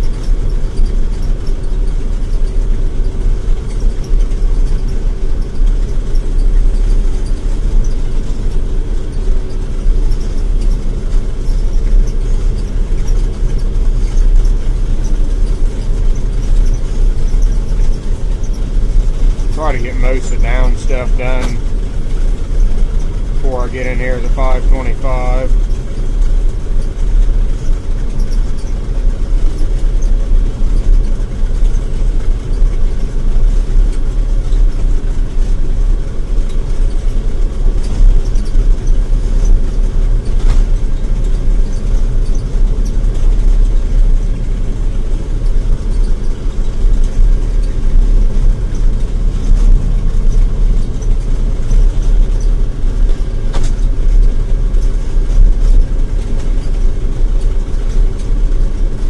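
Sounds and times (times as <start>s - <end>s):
combine harvester engine droning: 0.0s - 59.0s.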